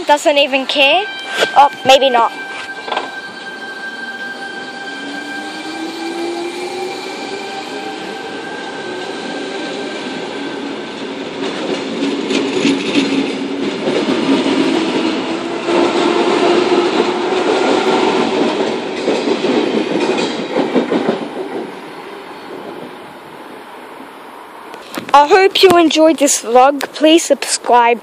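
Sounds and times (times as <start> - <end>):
electric train passing: 0.0 - 24.8.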